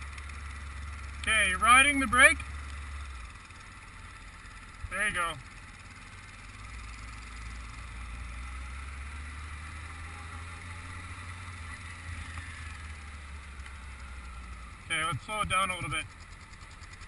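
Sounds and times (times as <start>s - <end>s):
motorcycle engine drone: 0.0s - 17.0s
wind and road noise: 0.0s - 17.0s.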